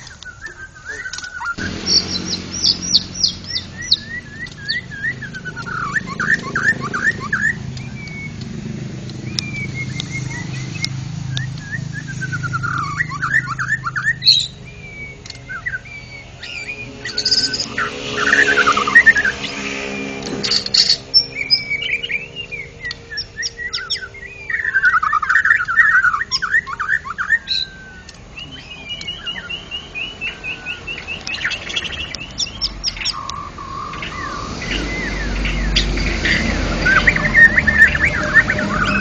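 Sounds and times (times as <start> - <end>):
songbird singing whistles and trills: 0.0 - 39.0.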